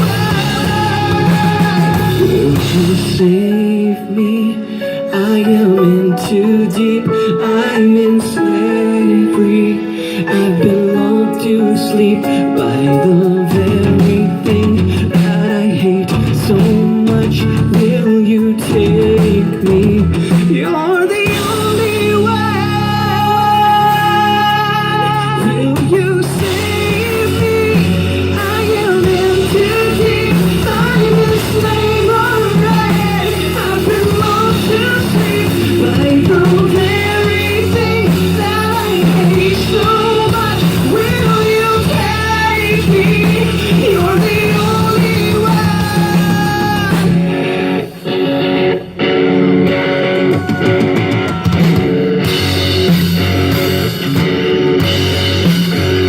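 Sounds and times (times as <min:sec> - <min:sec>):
bass line: 0:00.0 - 0:03.6, 0:12.7 - 0:56.0
live rock music with guitar: 0:00.0 - 0:56.0.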